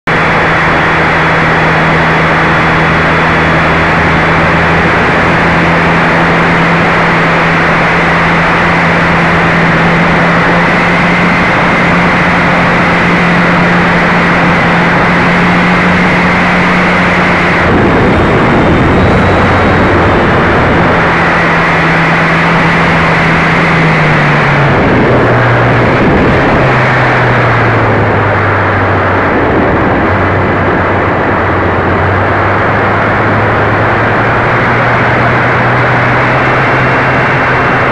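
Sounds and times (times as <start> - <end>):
wind rushing over microphone: 0.0 - 37.9
model airplane motor whine: 0.1 - 37.9.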